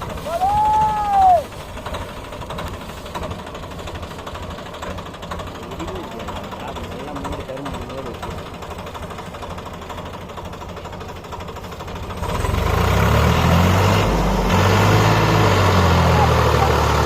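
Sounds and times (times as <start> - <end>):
tractor diesel engine chugging: 0.0 - 17.0.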